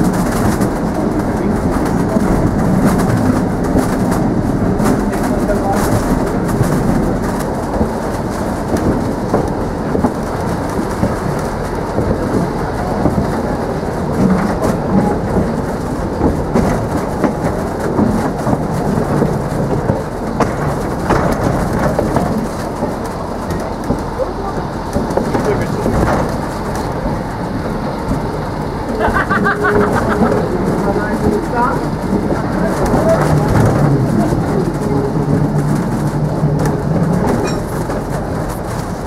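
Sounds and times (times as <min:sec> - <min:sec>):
railway car rumbling and rattling: 0:00.0 - 0:39.0.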